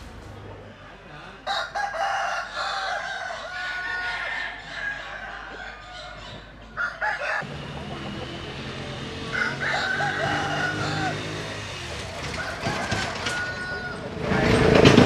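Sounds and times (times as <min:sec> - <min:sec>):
rooster crowing: 0:01.4 - 0:14.8.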